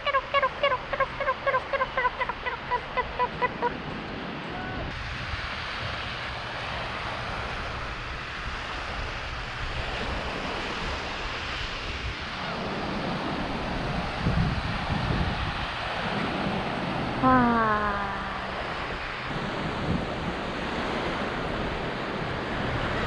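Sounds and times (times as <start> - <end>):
sea waves washing on shore: 0.0 - 23.0
wind on microphone: 0.0 - 23.0.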